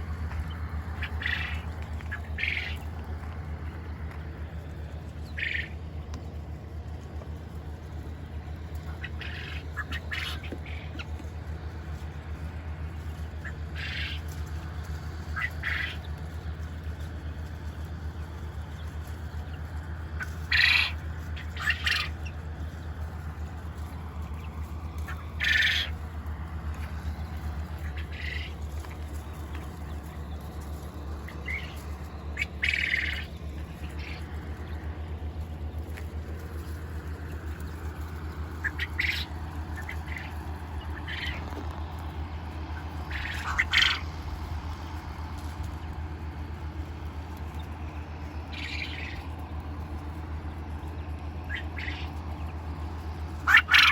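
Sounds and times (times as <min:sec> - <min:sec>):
quail calling: 0:00.0 - 0:06.4, 0:07.8 - 0:53.9
steady low hum: 0:00.0 - 0:53.9.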